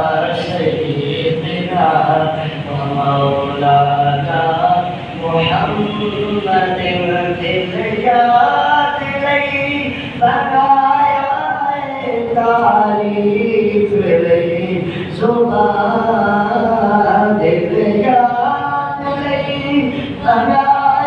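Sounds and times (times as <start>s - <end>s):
man chanting into a microphone: 0.0s - 21.0s.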